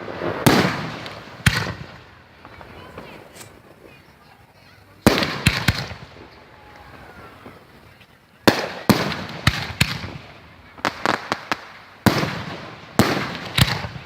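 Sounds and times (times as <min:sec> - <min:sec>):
crackling fireworks pops: 0:00.0 - 0:14.0
fireworks bangs: 0:00.0 - 0:14.0.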